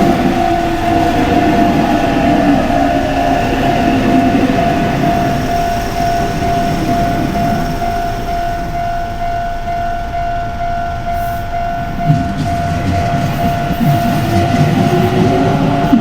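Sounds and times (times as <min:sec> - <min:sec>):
level-crossing alarm ringing: 0:00.0 - 0:16.0
train rumble: 0:00.0 - 0:16.0.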